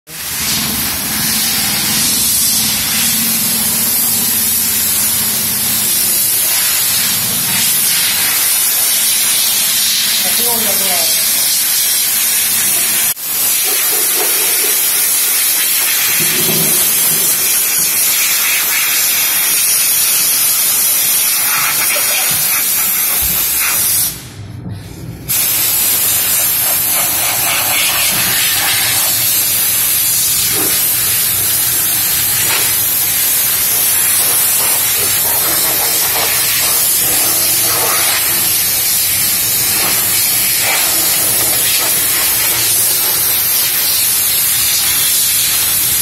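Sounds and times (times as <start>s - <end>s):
steam cleaner hissing: 0.1s - 24.3s, 25.3s - 46.0s.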